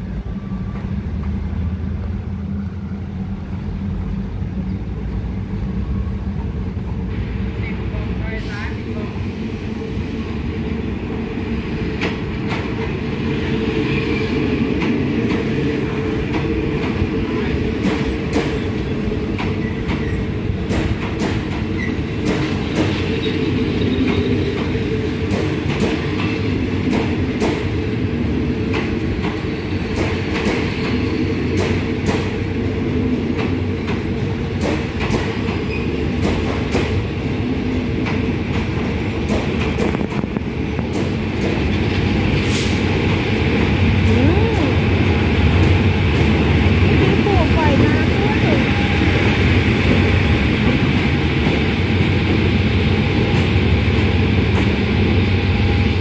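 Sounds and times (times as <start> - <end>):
low rumble of train wheels: 0.0 - 56.0.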